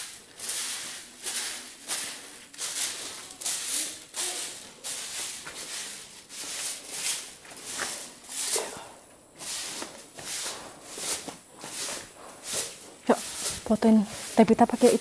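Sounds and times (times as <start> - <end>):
footsteps on gritty rock and sand: 0.0 - 15.0.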